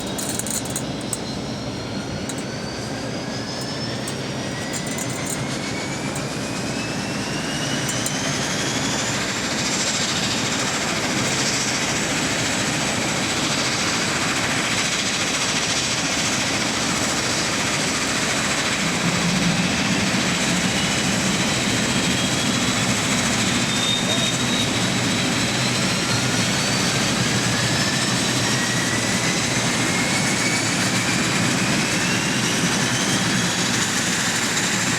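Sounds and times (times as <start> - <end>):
turboprop engine whine: 0.0 - 34.9.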